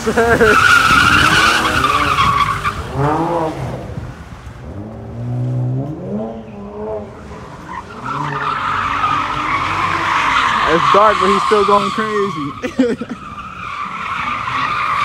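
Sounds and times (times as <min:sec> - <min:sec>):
car tires squealing: 0:00.0 - 0:03.8, 0:05.5 - 0:15.0
car engine revving: 0:00.0 - 0:12.6.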